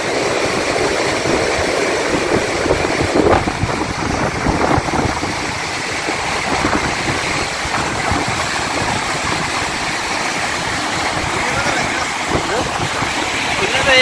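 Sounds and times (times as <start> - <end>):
floodwater rushing over stones: 0.0 - 14.0.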